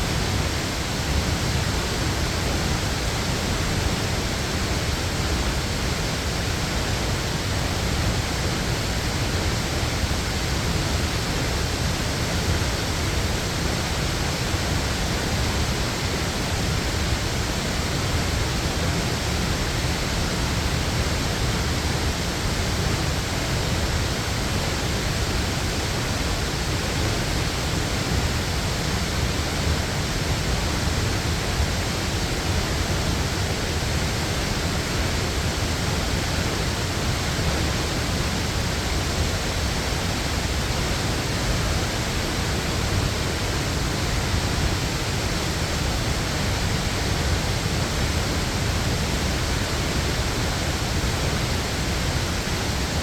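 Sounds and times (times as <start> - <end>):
waterfall roaring: 0.0 - 53.0.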